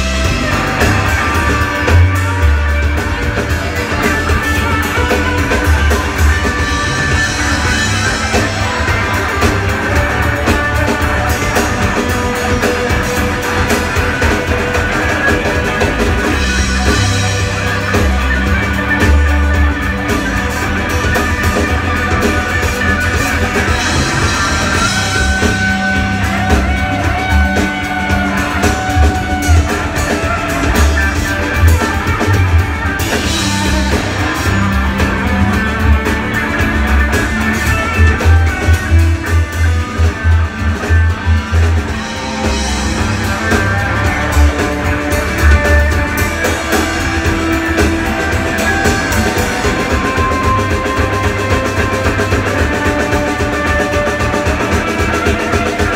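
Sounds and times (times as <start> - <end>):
electric guitar: 0.0 - 55.9
live rock band playing: 0.0 - 55.9.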